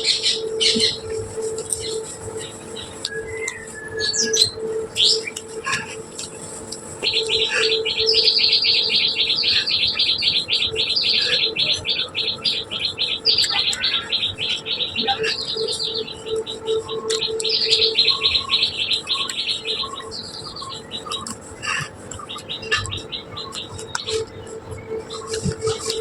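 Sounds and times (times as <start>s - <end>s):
faint low hum: 0.0s - 26.0s
small birds chirping: 0.0s - 26.0s.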